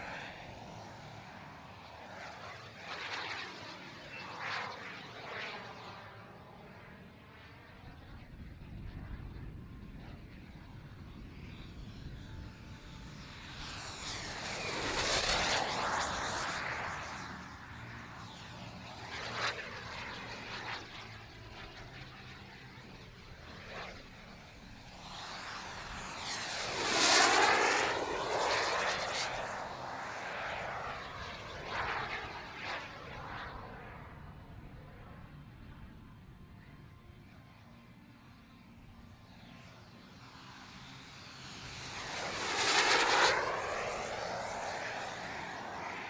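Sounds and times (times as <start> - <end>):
turbine engine whine: 0.0 - 46.0.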